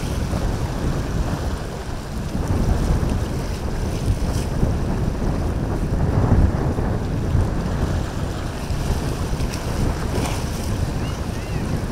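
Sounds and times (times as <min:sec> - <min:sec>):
waves washing: 0:00.0 - 0:11.9
wind buffeting microphone: 0:00.0 - 0:11.9.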